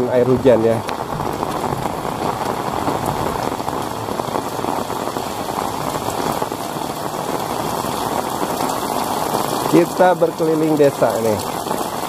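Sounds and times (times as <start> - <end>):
heavy rain on paved road: 0.0 - 12.0.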